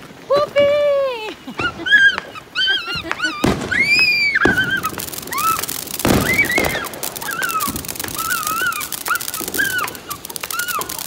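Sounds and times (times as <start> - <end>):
firework crackling and hissing: 0.0 - 11.0
high whining cries: 1.6 - 11.0.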